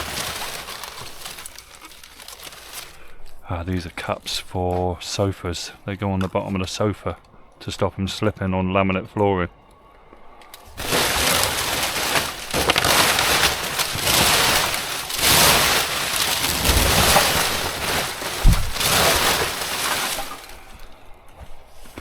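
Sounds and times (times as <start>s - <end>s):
rustling of rubbish bags: 0.0s - 8.3s, 9.7s - 22.0s.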